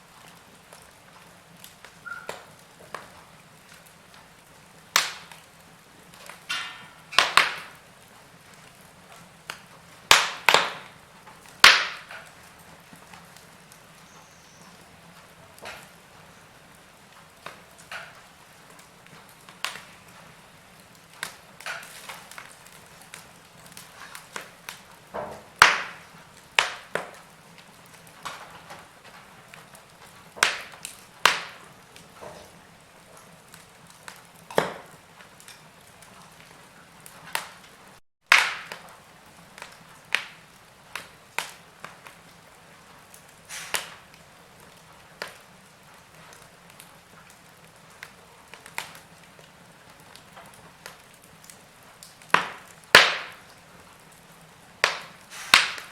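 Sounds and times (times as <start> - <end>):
faint steady hiss: 0.0 - 55.9
wood fire crackling and popping: 0.0 - 55.9.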